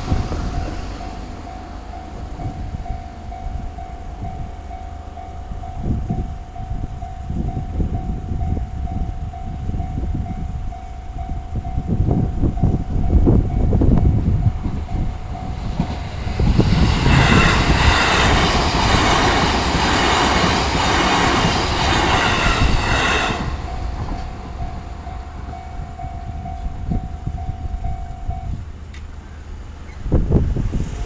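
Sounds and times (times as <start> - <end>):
train wheels squealing on rails: 0.0 - 10.4, 11.2 - 31.0
level crossing alarm ringing: 0.6 - 28.6.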